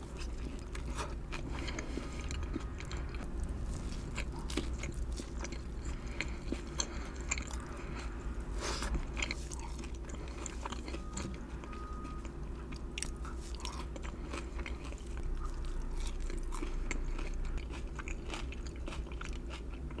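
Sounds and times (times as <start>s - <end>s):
crunchy chewing: 0.0s - 20.0s
steady low hum: 0.0s - 20.0s.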